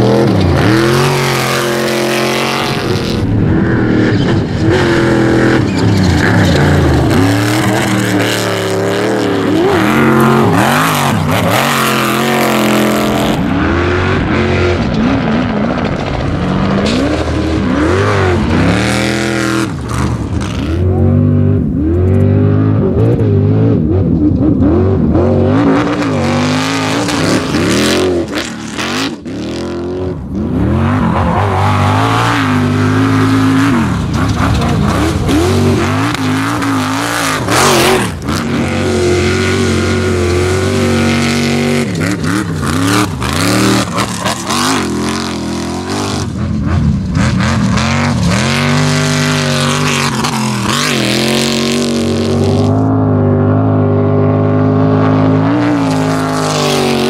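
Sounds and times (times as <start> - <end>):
buggy engine revving: 0.0 - 57.0.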